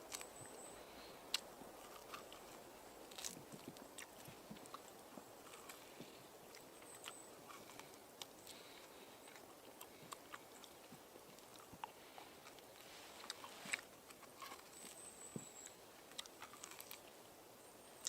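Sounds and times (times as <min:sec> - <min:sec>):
person chewing and crunching: 0:00.0 - 0:17.2.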